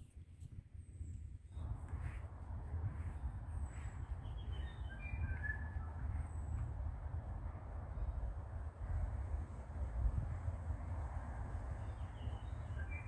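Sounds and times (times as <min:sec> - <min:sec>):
wind rumble on microphone: 0:00.0 - 0:13.0
wind rushing through bushes: 0:00.0 - 0:13.0.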